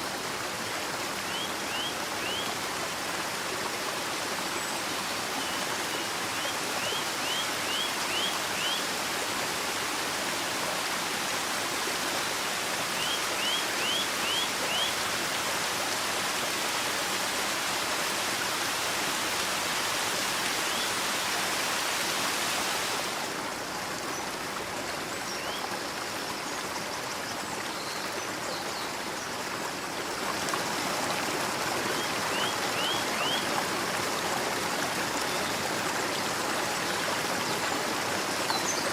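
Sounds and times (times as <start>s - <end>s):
flowing stream rushing: 0.0s - 38.9s.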